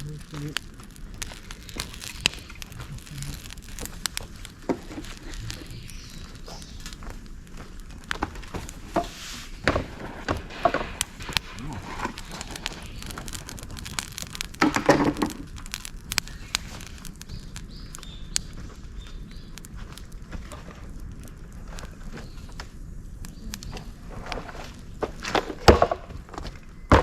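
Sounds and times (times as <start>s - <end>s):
sharp pops of fire: 0.0s - 27.0s
wood fire crackling: 0.0s - 27.0s.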